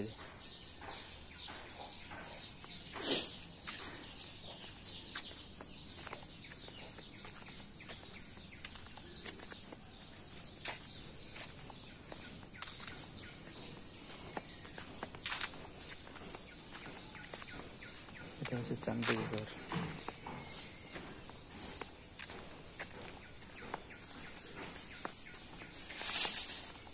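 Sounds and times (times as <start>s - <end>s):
small birds chirping: 0.0s - 26.9s
footsteps on dry leaves: 3.0s - 26.9s.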